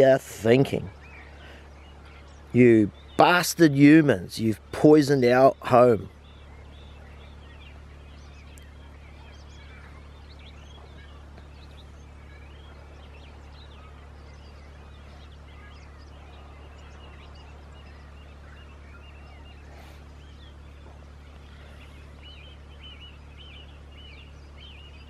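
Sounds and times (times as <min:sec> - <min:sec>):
birds chirping and warbling: 0:00.0 - 0:25.0
steady low hum: 0:00.0 - 0:25.0.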